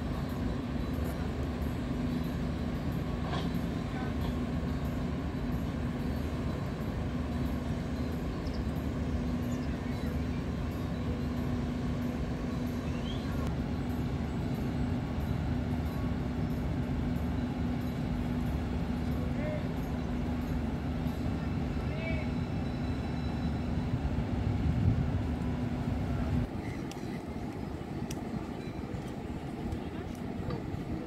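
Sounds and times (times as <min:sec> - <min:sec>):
constant hum: 0:00.0 - 0:31.0
ship engines rumbling: 0:00.0 - 0:31.0.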